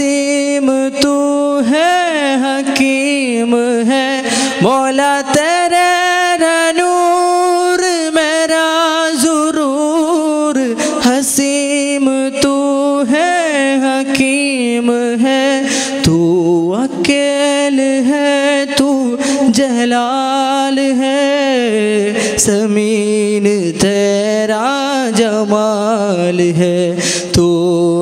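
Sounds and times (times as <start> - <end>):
man singing devotional song: 0.0 - 28.0.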